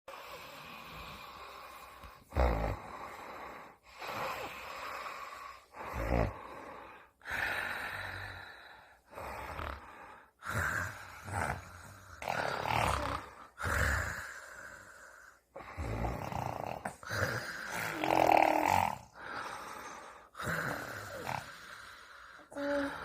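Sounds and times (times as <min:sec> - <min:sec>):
pretend snoring: 0:00.1 - 0:23.0.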